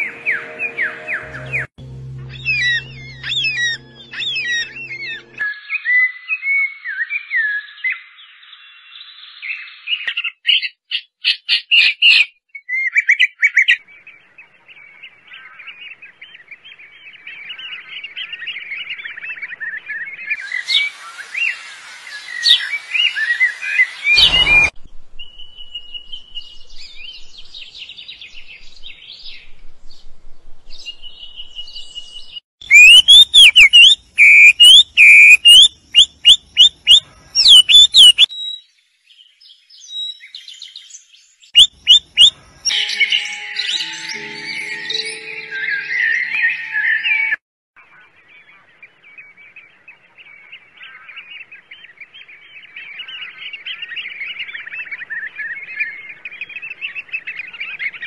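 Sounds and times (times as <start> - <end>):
small birds chirping and singing: 0.0 - 30.1, 30.7 - 58.0.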